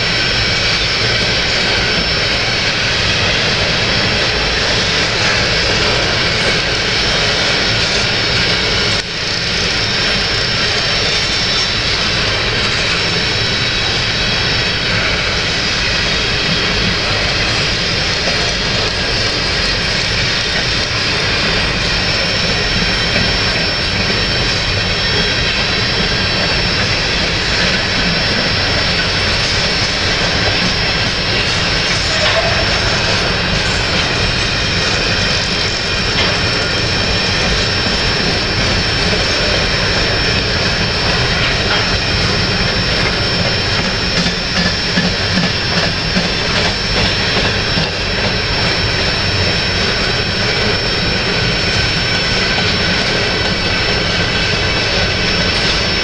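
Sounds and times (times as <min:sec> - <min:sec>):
thin high whine: 0:00.0 - 0:56.0
train wheels rumbling on rail: 0:00.0 - 0:56.0.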